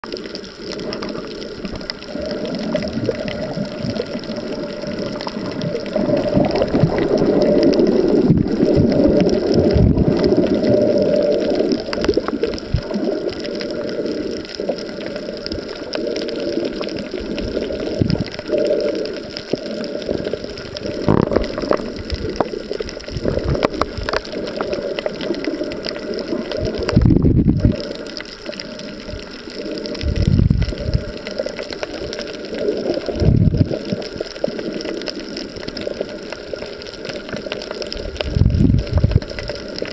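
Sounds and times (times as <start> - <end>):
underwater gurgling wash: 0.0 - 39.9.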